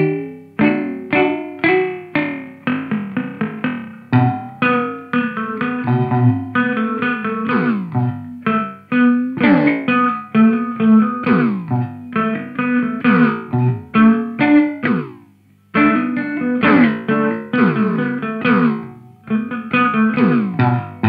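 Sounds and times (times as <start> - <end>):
electric guitar with delay: 0.0 - 21.0.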